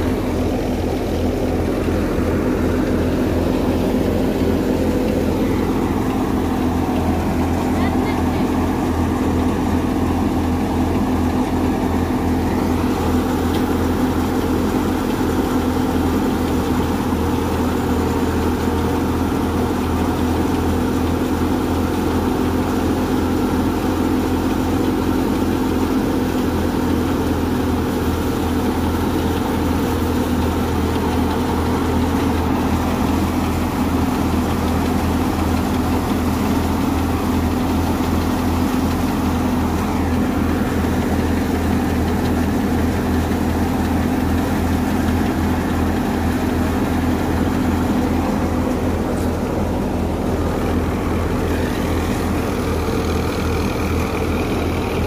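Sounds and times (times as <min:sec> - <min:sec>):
thresher engine humming: 0:00.0 - 0:55.0.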